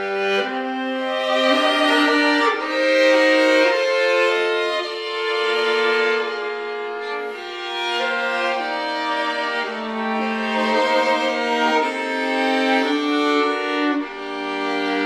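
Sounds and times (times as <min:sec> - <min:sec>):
bowed strings playing slow notes: 0:00.0 - 0:15.0.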